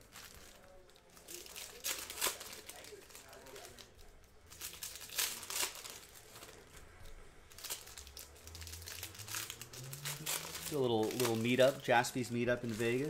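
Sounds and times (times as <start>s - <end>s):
foil packs crinkling: 0.0s - 13.0s
louder foil crackles: 0.0s - 13.0s.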